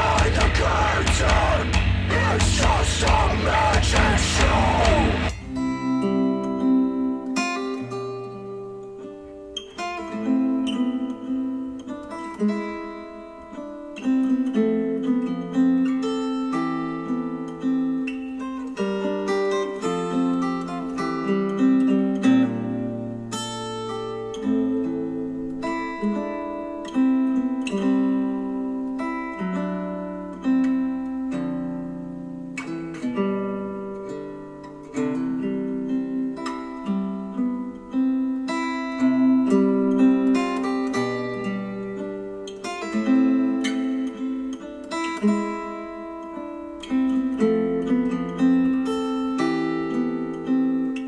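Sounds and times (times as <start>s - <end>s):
acoustic guitar music over speakers: 0.0s - 51.0s.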